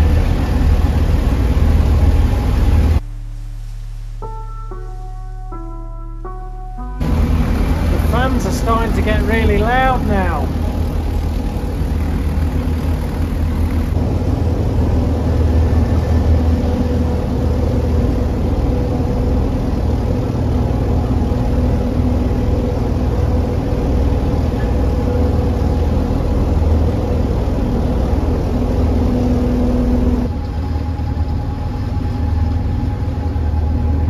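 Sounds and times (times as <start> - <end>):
extractor fans droning: 0.0 - 34.0.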